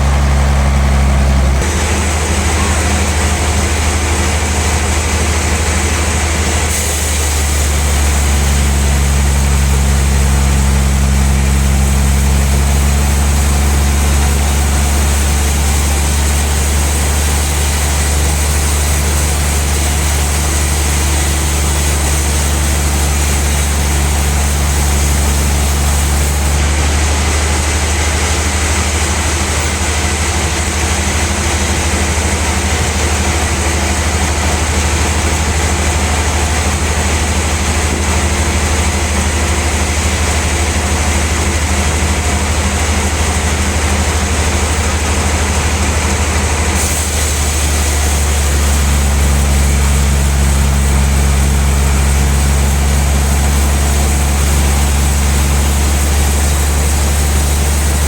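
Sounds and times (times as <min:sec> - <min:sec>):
bandsaw machinery humming: 0:00.0 - 0:58.0.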